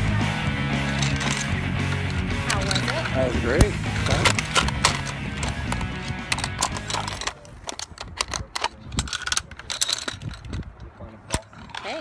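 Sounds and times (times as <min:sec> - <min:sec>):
metal hardware clicking and clanking: 0:00.8 - 0:12.0.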